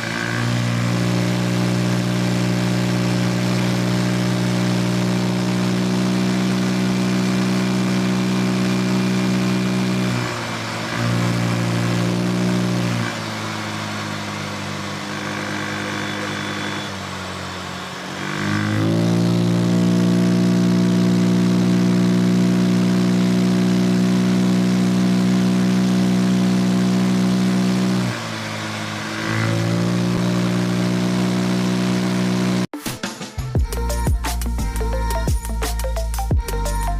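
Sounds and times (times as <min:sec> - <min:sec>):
scooter engine revving: 0:00.0 - 0:32.8.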